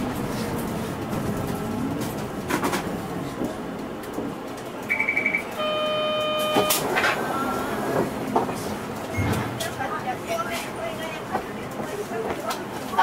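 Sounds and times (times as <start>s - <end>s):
bus engine and tyres hum: 0.0s - 13.0s.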